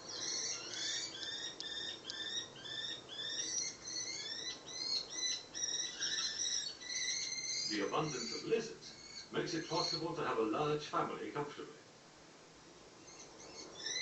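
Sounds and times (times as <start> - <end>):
kestrels calling on television: 0.0 - 11.1, 11.8 - 14.0.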